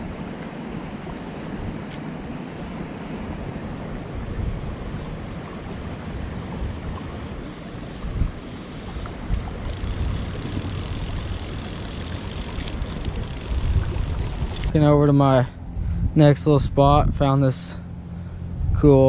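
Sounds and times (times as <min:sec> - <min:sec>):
wind buffeting microphone: 0:00.0 - 0:17.4, 0:18.4 - 0:19.0.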